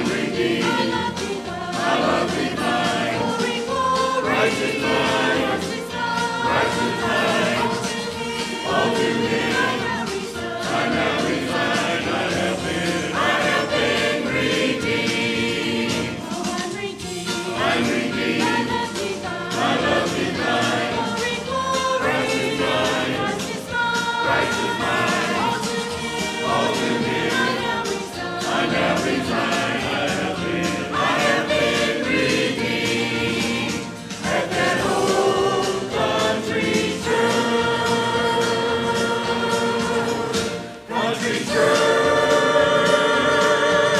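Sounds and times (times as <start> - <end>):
choir singing a hymn: 0.0 - 43.9.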